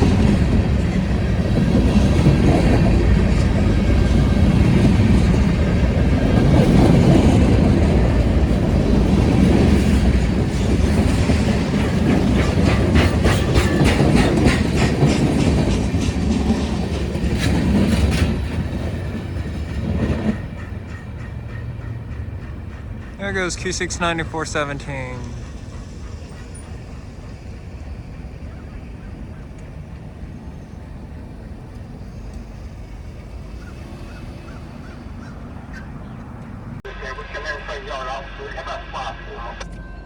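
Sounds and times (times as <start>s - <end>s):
wheels clacking over rail joints: 0.0s - 36.8s
freight train rumbling past: 0.0s - 40.0s.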